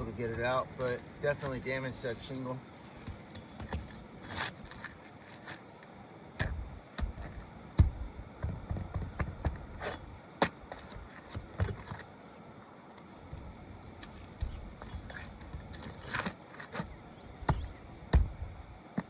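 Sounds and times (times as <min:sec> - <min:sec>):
pry bar scraping roof shingles: 0:00.0 - 0:05.8, 0:06.4 - 0:12.2, 0:13.9 - 0:18.3.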